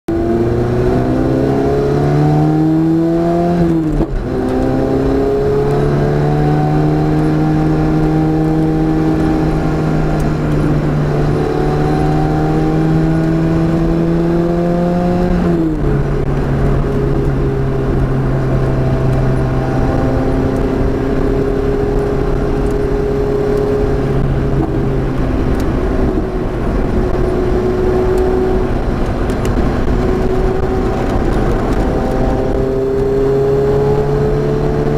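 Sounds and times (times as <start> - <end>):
car engine accelerating: 0.1 - 34.9
road and wind noise: 0.1 - 34.9.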